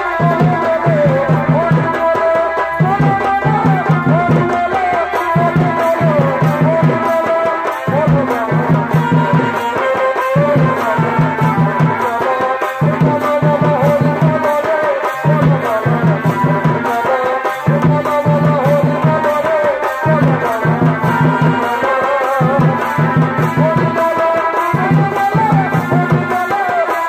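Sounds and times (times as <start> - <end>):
drums beaten in quick runs: 0.0 - 27.0
wavering shehnai melody: 0.0 - 27.0.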